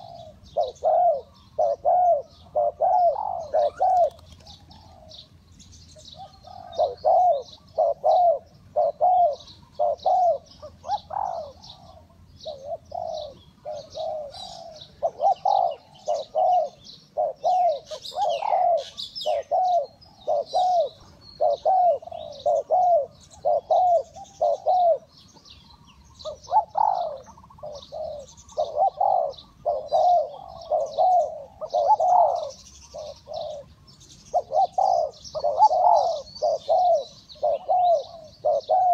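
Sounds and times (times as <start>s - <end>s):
dove cooing: 0.0s - 38.9s
faint chirping of small birds: 0.0s - 38.9s.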